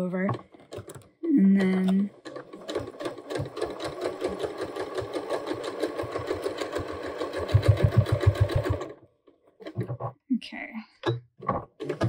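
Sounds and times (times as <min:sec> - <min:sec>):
sewing machine stitching: 0:00.3 - 0:10.1, 0:11.5 - 0:12.0.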